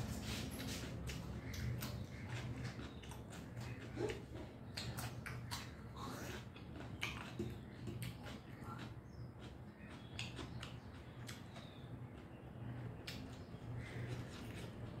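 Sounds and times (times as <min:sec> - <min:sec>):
wet chewing and lip smacking: 0:00.1 - 0:15.0.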